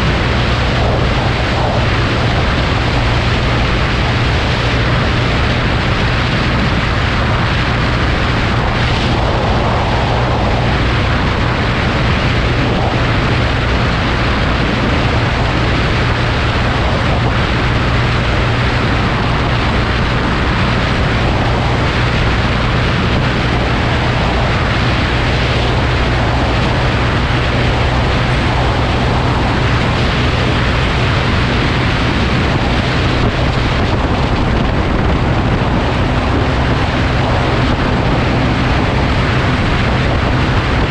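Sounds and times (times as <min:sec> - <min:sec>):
low engine drone: 0:00.0 - 0:40.9
wind rush on microphone: 0:00.0 - 0:40.9.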